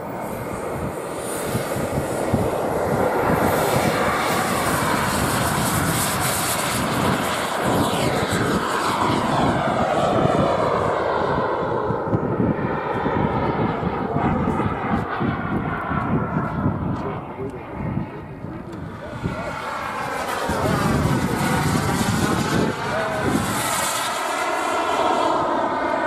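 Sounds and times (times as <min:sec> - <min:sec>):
jet turbine engine whine: 0:00.0 - 0:26.0.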